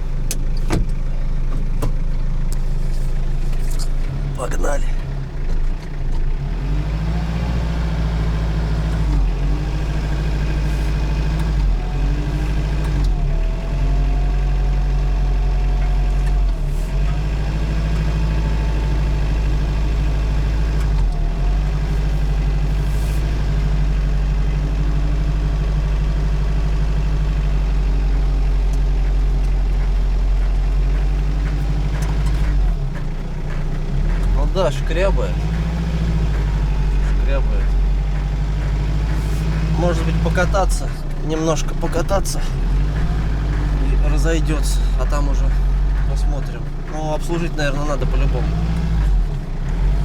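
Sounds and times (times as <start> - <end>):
diesel engine and road noise: 0.0 - 50.0
brakes scraping squeal: 2.6 - 5.0, 7.0 - 50.0.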